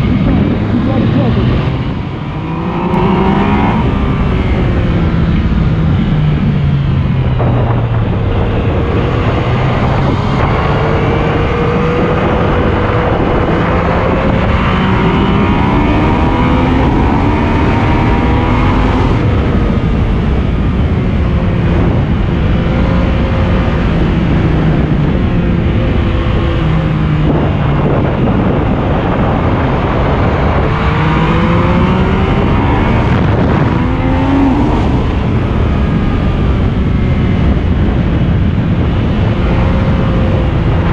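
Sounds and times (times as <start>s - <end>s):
motorcycle engine accelerating: 0.0s - 40.9s
wind noise on microphone: 0.0s - 40.9s.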